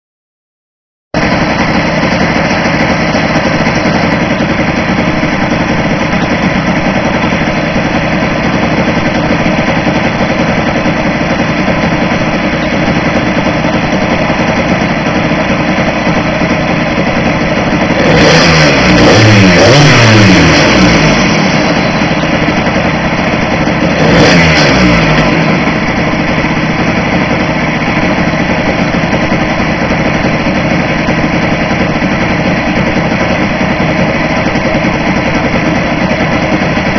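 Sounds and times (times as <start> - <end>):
small two-stroke boat engine: 1.2 - 36.9.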